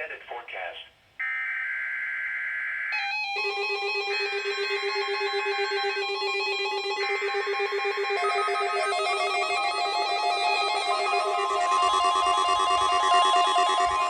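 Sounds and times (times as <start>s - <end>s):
synthesizer tune with drone: 1.2s - 14.0s.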